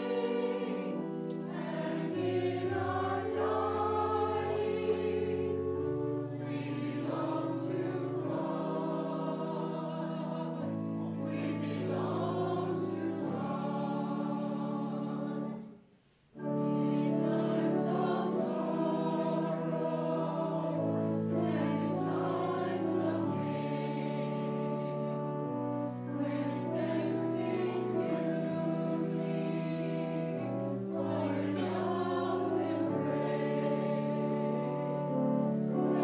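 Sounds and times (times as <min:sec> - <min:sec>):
musical accompaniment: 0:00.0 - 0:36.0
voices singing a hymn: 0:00.0 - 0:36.0.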